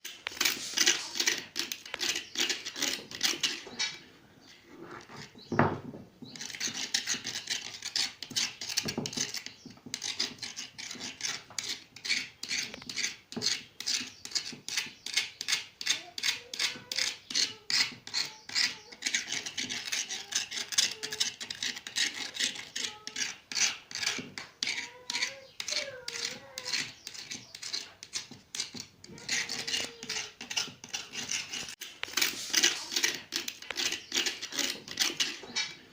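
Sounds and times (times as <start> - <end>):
rhythmic rasping scrapes: 0.0 - 4.0, 6.3 - 35.9.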